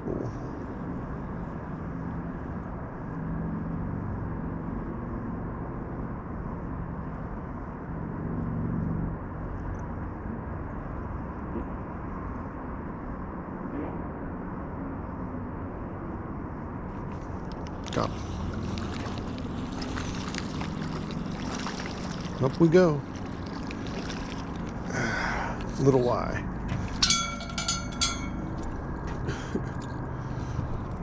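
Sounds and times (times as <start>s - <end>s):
engine drone: 0.0s - 31.0s
low hum: 0.0s - 31.0s.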